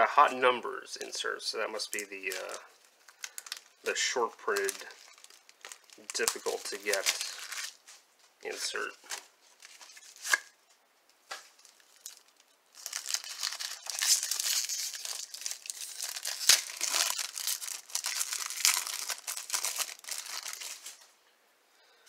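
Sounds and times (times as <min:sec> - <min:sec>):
wrapper crinkling and tearing: 0:01.8 - 0:10.5, 0:11.4 - 0:21.1.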